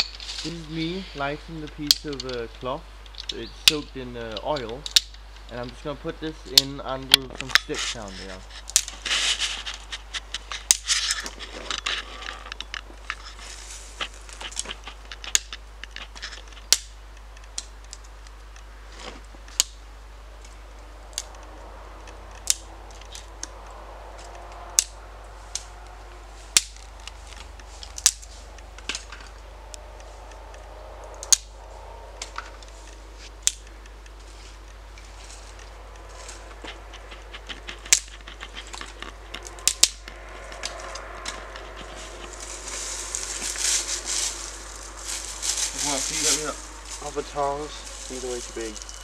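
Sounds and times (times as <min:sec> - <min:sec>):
kindling crackling and popping: 0:00.0 - 0:49.0.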